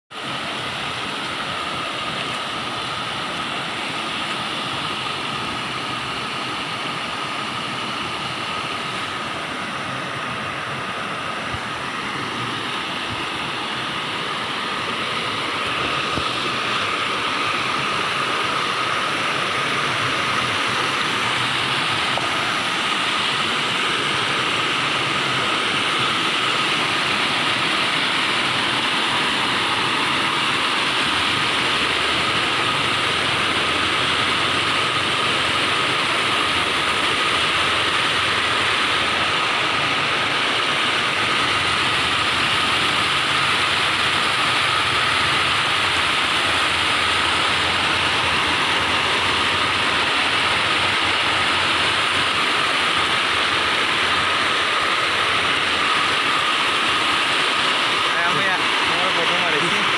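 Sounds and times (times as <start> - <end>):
water rushing over weir: 0.1 - 59.9.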